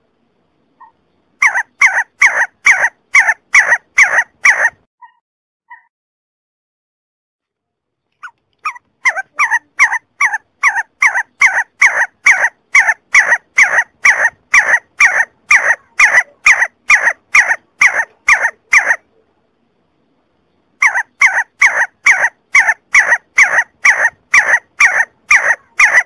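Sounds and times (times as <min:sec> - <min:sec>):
partridge calling: 0:00.8 - 0:05.9, 0:08.2 - 0:19.0, 0:20.8 - 0:26.0.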